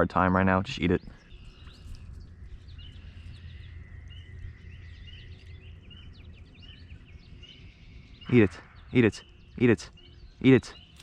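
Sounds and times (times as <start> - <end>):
birds chirping: 0.0 - 11.0
low rumble: 1.1 - 10.4.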